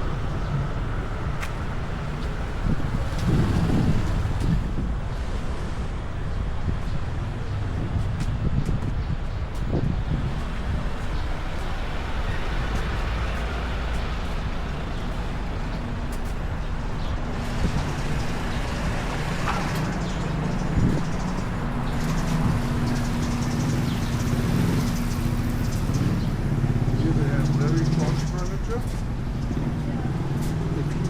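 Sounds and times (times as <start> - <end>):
low engine hum: 0.0 - 31.0
vehicles passing: 0.0 - 31.0.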